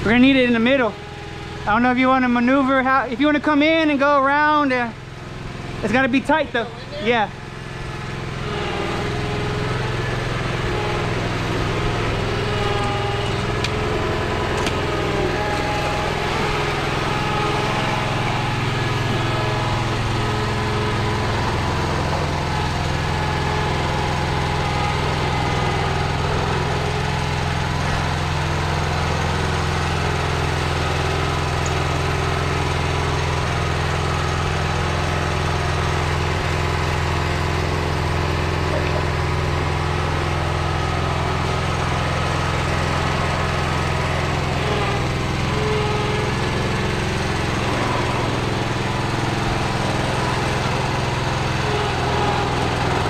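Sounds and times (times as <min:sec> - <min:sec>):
engine humming: 0:00.0 - 0:53.0.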